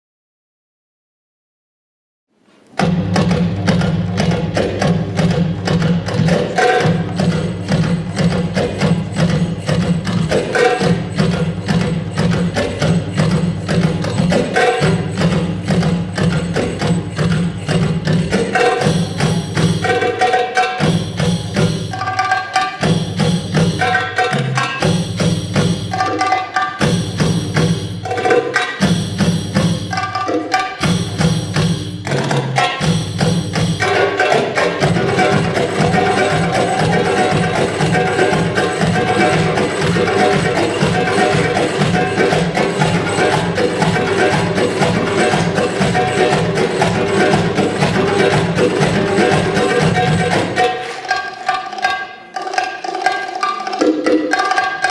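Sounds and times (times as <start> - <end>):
busy percussion beat: 2.7 - 54.9.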